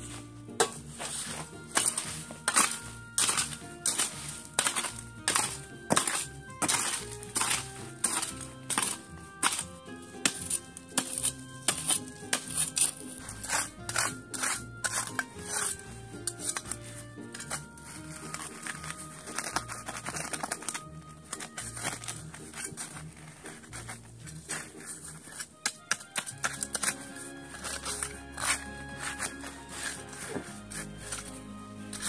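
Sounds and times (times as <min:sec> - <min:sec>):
background music with held notes: 0:00.0 - 0:32.0
gloved hands digging in dry grass: 0:00.0 - 0:32.0.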